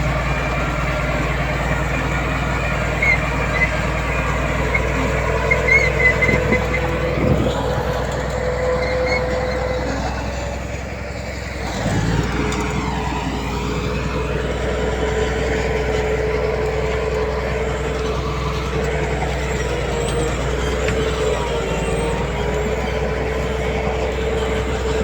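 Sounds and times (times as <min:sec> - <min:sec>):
diesel machinery engine rumble: 0:00.0 - 0:25.0.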